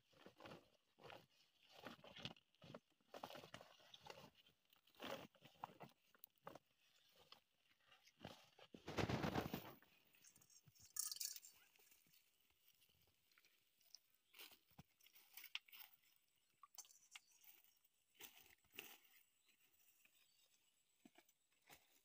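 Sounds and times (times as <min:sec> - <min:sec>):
crunching footsteps: 0:00.0 - 0:10.8, 0:11.4 - 0:22.0.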